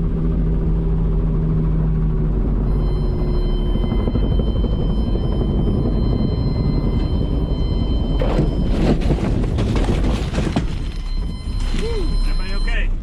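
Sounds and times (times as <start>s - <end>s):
aircraft engine and rotor rumble: 0.0s - 13.0s.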